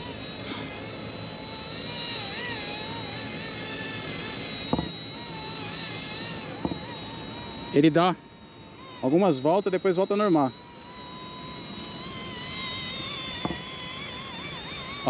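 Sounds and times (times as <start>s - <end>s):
remote-control helicopter rotors whining: 0.0s - 15.0s.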